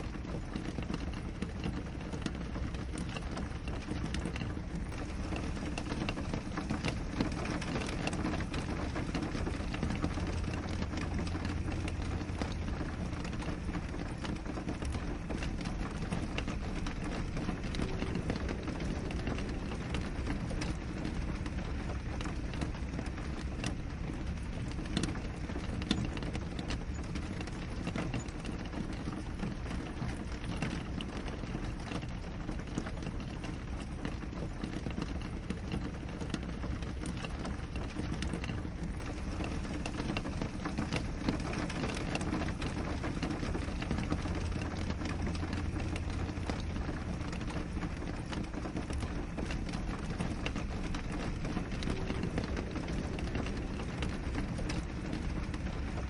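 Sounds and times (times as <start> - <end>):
rain falling on a window: 0.0 - 56.0
raindrops tapping on glass: 0.0 - 56.0.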